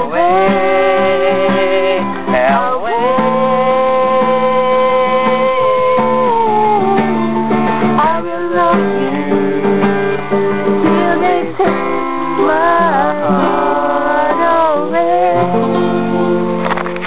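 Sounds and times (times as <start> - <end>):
slow love song with guitar: 0.0 - 17.0.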